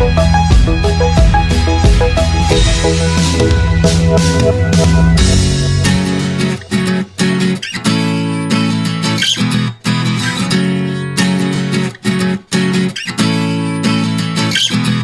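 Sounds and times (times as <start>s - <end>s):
strummed guitar music: 0.0s - 15.0s.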